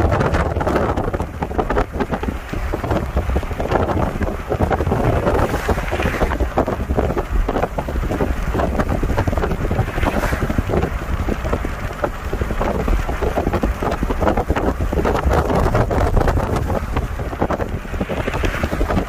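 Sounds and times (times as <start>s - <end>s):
car driving rumble: 0.0s - 19.0s
wind buffeting microphone: 0.0s - 19.0s.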